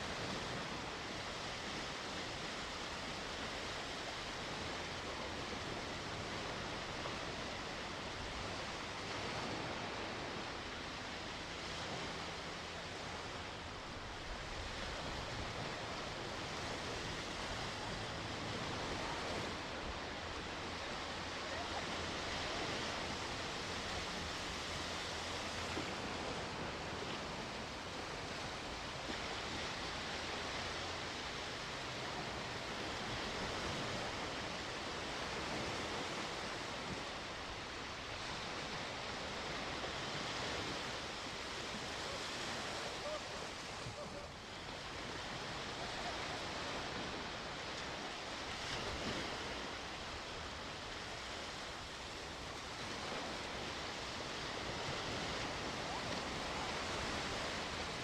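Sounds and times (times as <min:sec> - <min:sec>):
sea waves washing ashore: 0:00.0 - 0:58.0.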